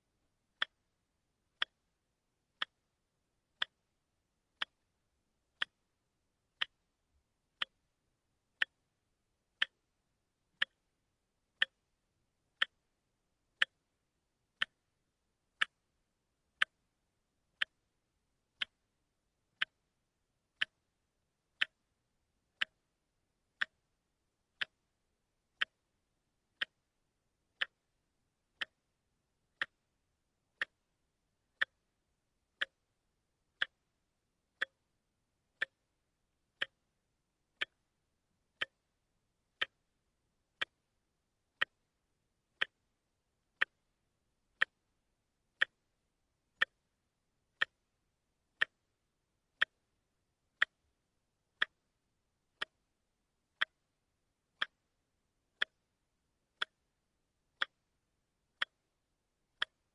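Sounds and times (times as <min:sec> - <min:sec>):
watch ticking: 0:00.5 - 0:00.9, 0:01.5 - 0:01.9, 0:02.5 - 0:09.9, 0:10.5 - 0:12.9, 0:13.5 - 0:14.9, 0:15.5 - 0:23.9, 0:24.5 - 0:36.0, 0:36.6 - 0:40.9, 0:41.5 - 0:44.9, 0:45.5 - 0:49.0, 0:49.6 - 0:56.9, 0:57.6 - 0:57.9, 0:58.5 - 0:58.9, 0:59.6 - 0:59.9.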